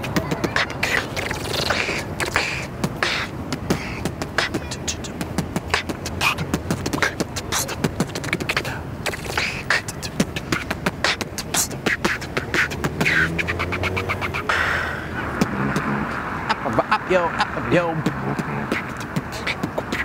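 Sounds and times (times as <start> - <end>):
man beatboxing: 0.0 - 20.0.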